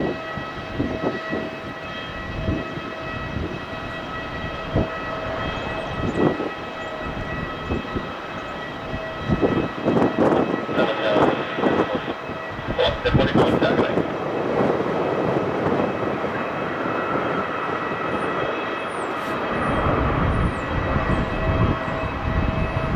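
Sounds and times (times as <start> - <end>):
jet engines whining: 0.0 - 22.9
wind buffeting microphone: 0.0 - 22.9.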